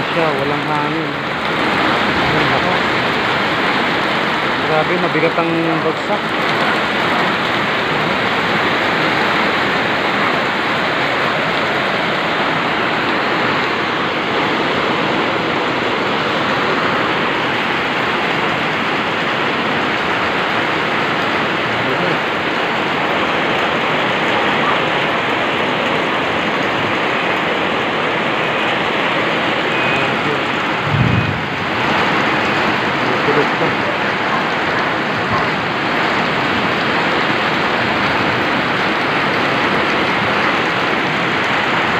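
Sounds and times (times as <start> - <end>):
heavy rain on a metal roof: 0.0 - 41.9.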